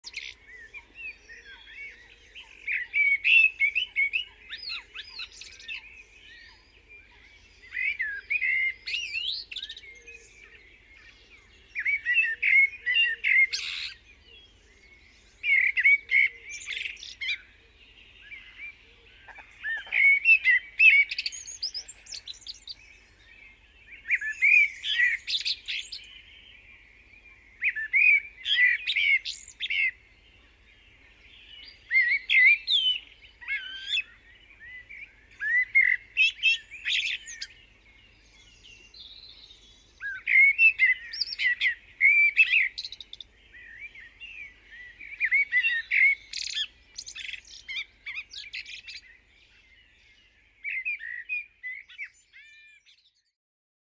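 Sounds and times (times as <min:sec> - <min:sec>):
birds chirping: 0:00.0 - 0:53.3.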